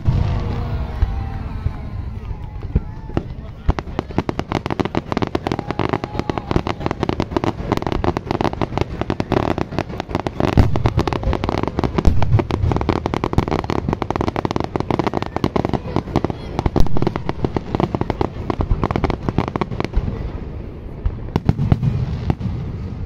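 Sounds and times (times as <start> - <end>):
fireworks popping and crackling: 0.0 - 23.0
heavy firework booms: 0.0 - 23.0.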